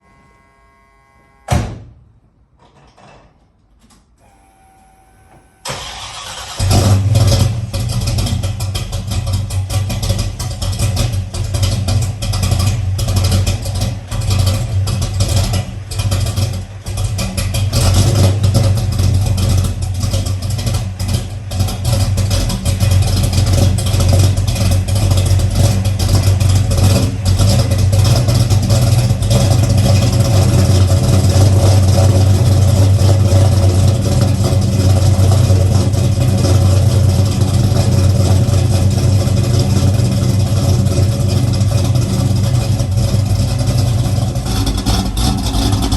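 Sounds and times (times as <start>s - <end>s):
car engine cold start idling: 0.0s - 1.7s, 4.2s - 45.9s.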